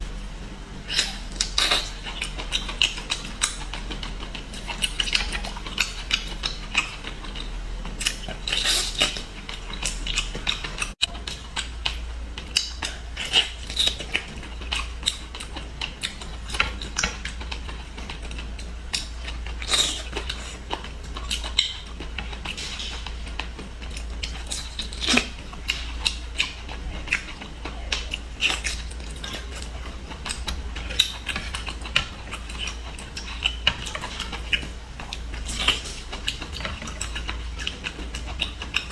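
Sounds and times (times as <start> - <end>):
low steady hum: 0.0 - 38.9
crunching and chewing seafood: 0.3 - 38.9.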